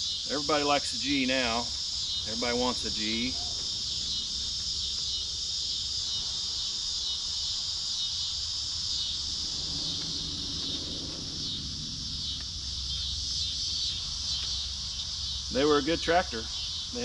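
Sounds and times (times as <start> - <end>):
faint low drone: 0.0 - 17.0
insects shrilling: 0.0 - 17.0.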